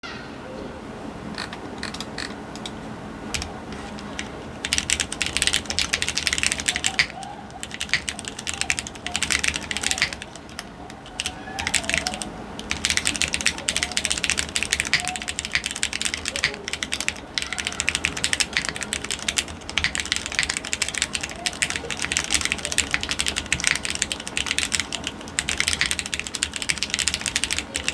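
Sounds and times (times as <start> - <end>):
mechanical keyboard typing: 1.3 - 27.9.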